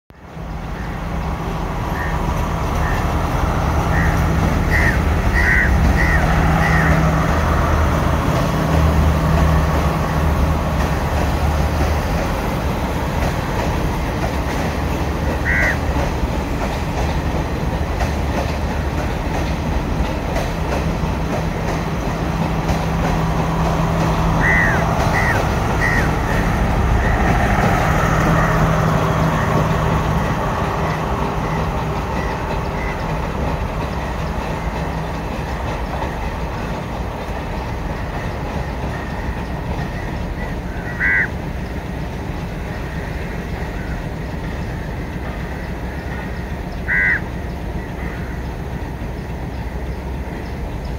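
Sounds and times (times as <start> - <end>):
diesel engine drone: 0.1 - 50.9
train wheels on tracks: 0.1 - 50.9.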